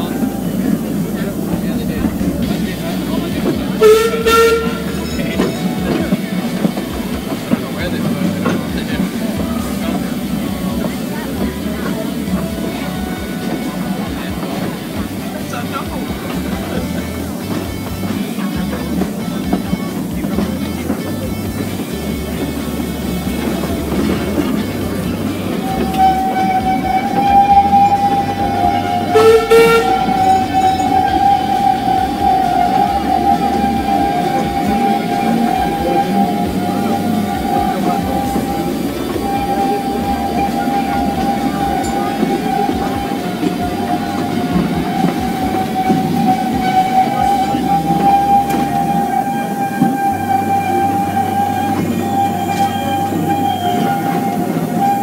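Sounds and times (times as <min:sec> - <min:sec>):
steady high tone: 0:00.0 - 0:55.0
train running on track: 0:00.0 - 0:55.0
train whistle blast: 0:00.0 - 0:55.0.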